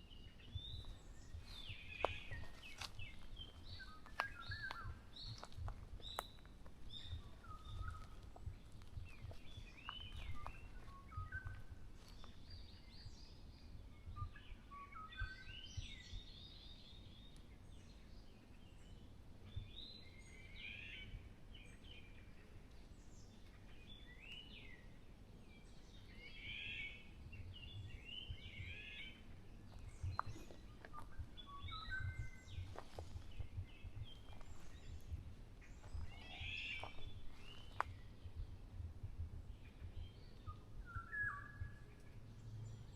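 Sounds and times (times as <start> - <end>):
songbirds chirping and warbling: 0.0 - 42.9.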